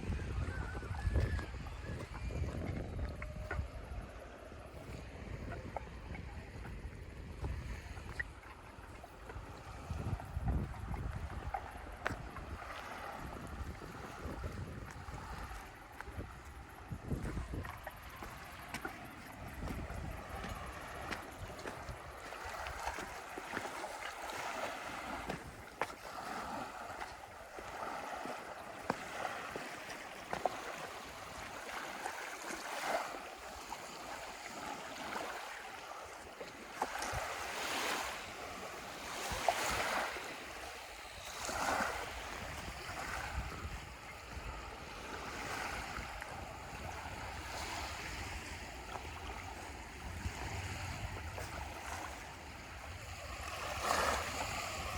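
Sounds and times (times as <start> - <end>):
small waves washing onto beach: 0.0 - 54.9
wind rumble on microphone: 0.0 - 54.9.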